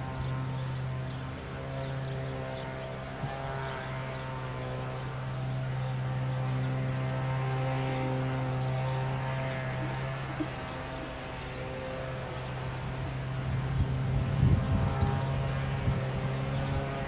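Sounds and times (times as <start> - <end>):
diesel locomotive engines droning: 0.0 - 17.0.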